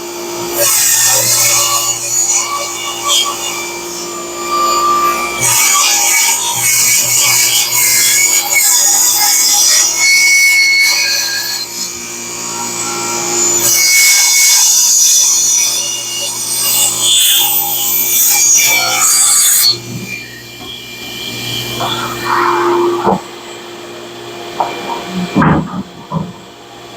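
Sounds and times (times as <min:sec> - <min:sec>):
saw motor humming: 0:00.0 - 0:26.9
table saw cutting wood: 0:00.0 - 0:26.9.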